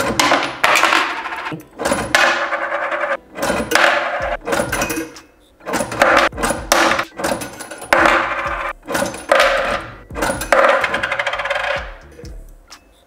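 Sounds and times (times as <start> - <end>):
metal coin bank mechanism rattling: 0.0 - 11.8.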